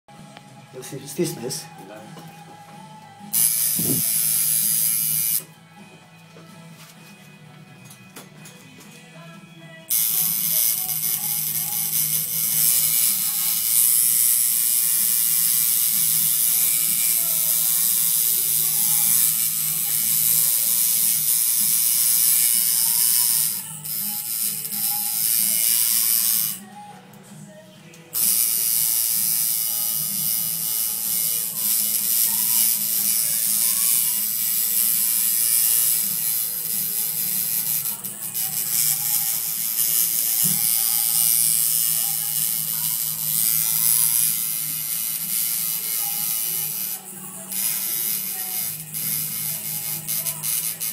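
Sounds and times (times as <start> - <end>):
tattoo machine buzzing: 3.3 - 5.5, 9.9 - 26.7, 28.1 - 50.9.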